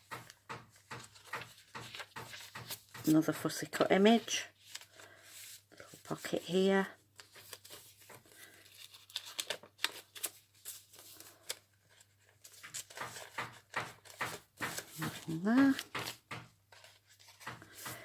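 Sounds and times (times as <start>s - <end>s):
paper pages rustling: 0.0s - 18.0s.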